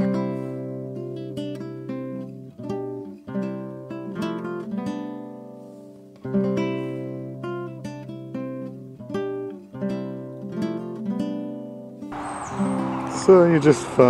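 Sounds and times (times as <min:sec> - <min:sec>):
acoustic guitar plucking: 0:00.0 - 0:14.0.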